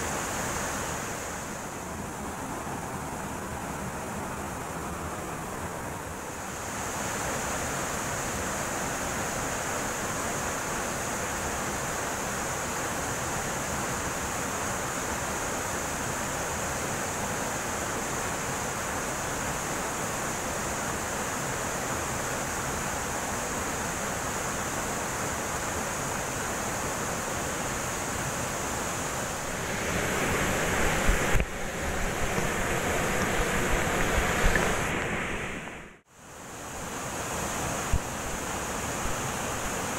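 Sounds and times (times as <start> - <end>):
waterfall rushing into pool: 0.0 - 39.9.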